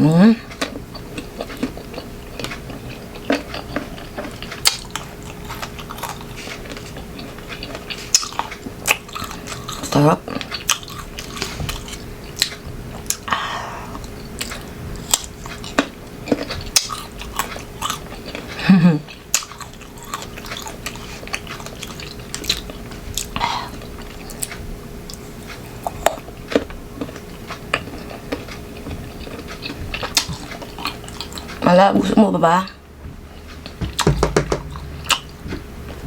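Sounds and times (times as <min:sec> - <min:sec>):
crunchy mango being chewed: 0:00.4 - 0:31.7, 0:32.7 - 0:36.0.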